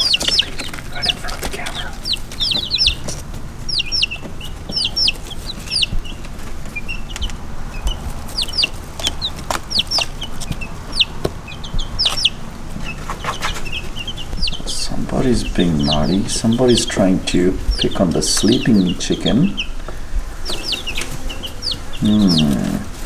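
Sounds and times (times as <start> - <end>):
baby chicks peeping: 0.0 - 23.0.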